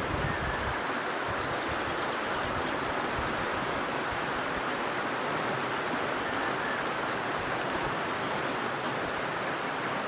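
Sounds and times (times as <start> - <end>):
creek water over stones: 0.0 - 10.0.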